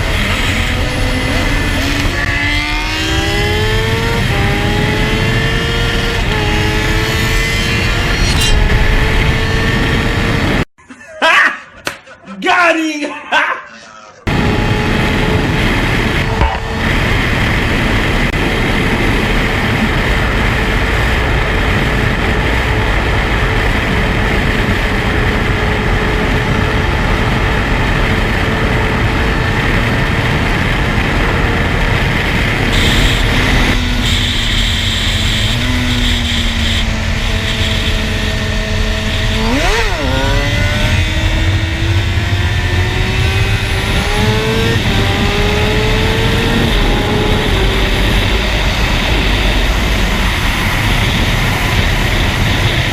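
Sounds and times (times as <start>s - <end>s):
motorcycle engine revving: 0.0s - 10.7s, 14.3s - 52.9s
wind rush: 0.0s - 10.7s, 14.3s - 39.7s, 40.4s - 52.9s.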